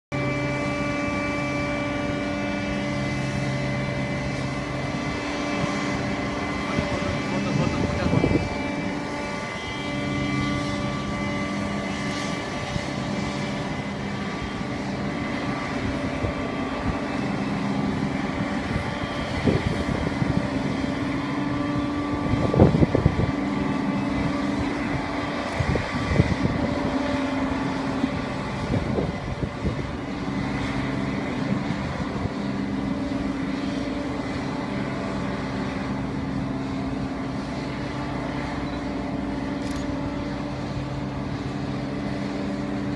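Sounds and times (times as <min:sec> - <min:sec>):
mechanical hum with whining tones: 0:00.1 - 0:42.9.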